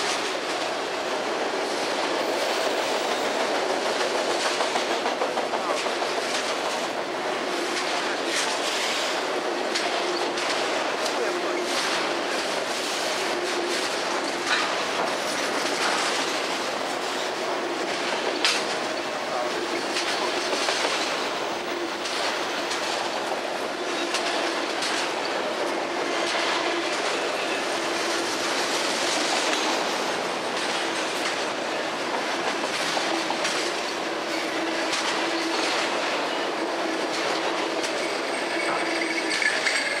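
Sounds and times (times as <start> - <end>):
freight train rumbling past: 0.0 - 40.0
wheels clacking over rail joints: 0.0 - 40.0.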